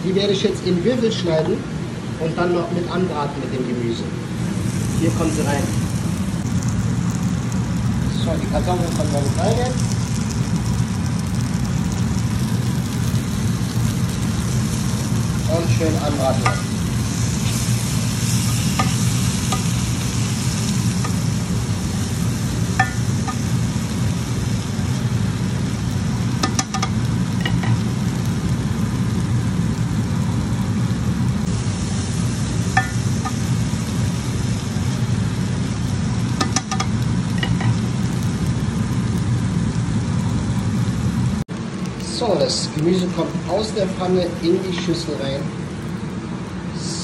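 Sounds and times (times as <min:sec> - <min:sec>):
vegetables sizzling in a frying pan: 0:04.3 - 0:47.0.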